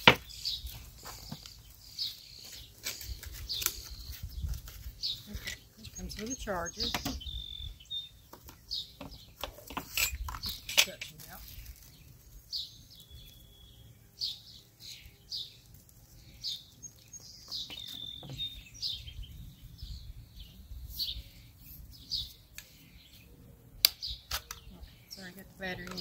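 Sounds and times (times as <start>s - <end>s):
wild birds chirping: 0.0s - 26.0s.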